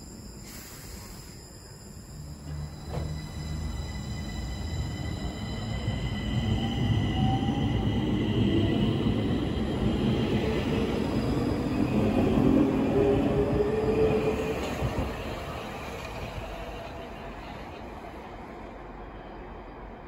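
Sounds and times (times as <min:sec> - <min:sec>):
train rail rumble: 0:00.4 - 0:19.1.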